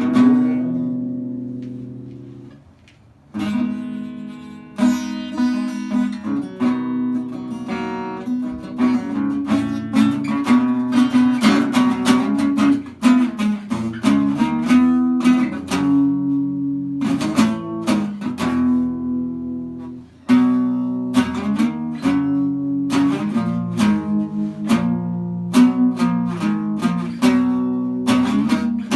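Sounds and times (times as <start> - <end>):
acoustic guitar plucking and strumming: 0.0 - 28.9.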